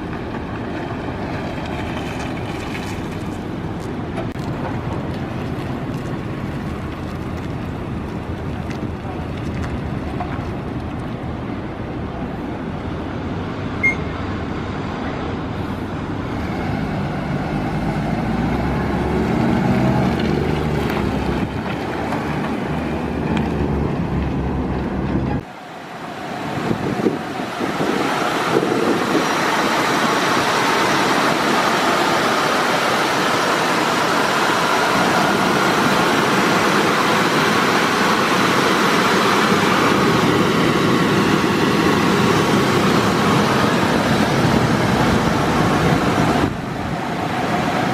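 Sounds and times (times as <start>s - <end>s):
steady rushing noise: 0.0s - 47.9s
truck engine running: 0.0s - 47.9s.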